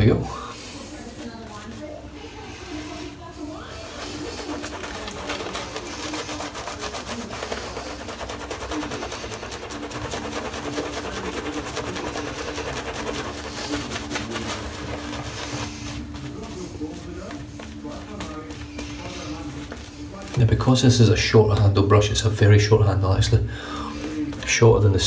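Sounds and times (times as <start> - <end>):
shaving brush scrubbing skin: 1.0 - 23.3.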